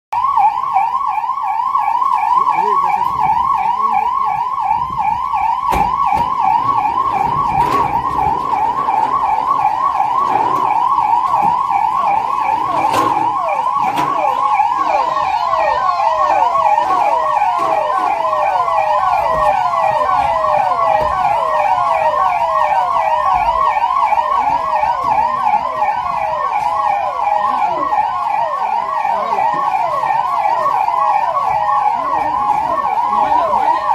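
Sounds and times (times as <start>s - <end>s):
electronic sirens warbling: 0.1s - 33.9s.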